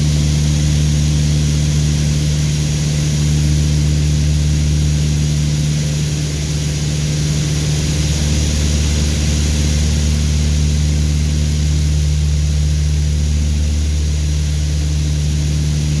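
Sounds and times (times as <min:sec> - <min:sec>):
aircraft engines droning in cabin: 0:00.0 - 0:16.0.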